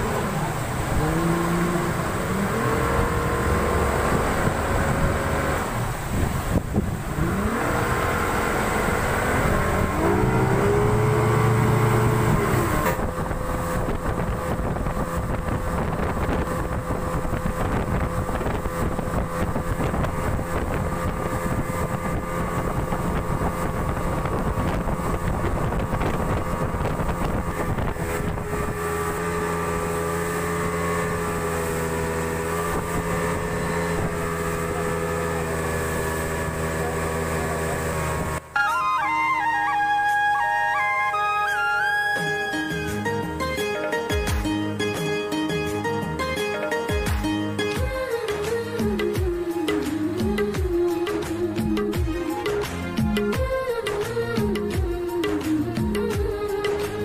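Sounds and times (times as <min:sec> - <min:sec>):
outboard motor running: 0:00.0 - 0:57.0.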